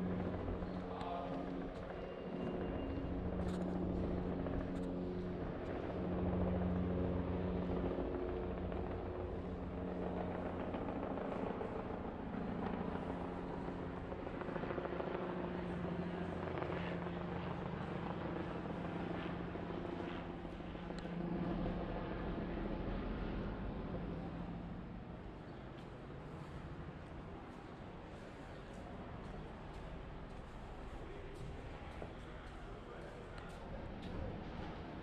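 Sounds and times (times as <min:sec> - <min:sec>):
helicopter engine and rotor drone: 0:00.0 - 0:35.0.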